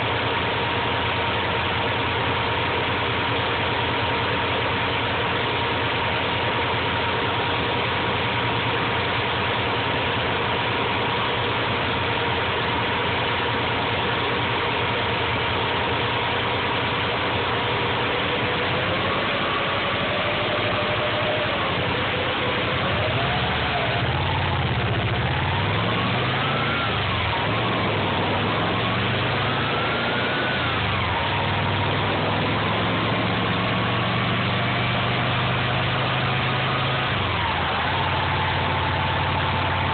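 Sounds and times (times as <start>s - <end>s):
car engine idling and revving: 0.0s - 39.9s
thin engine whine: 0.0s - 39.9s.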